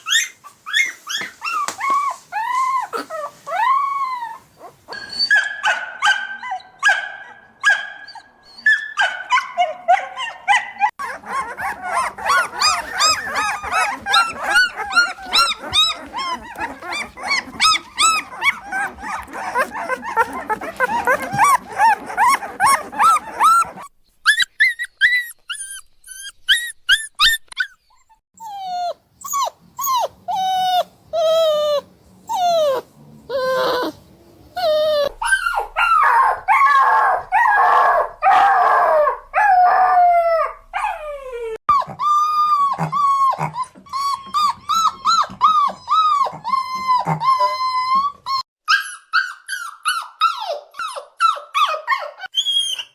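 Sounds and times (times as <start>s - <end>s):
puppy crying and whimpering: 0.0s - 5.6s, 8.0s - 52.9s.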